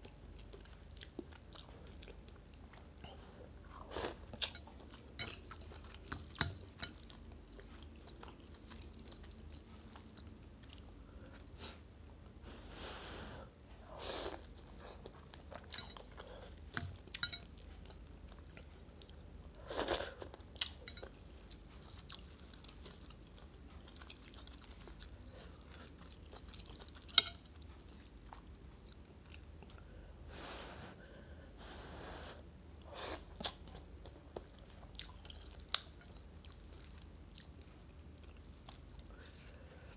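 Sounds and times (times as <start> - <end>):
chewing food: 0.0 - 12.2, 14.2 - 29.9, 33.2 - 39.9.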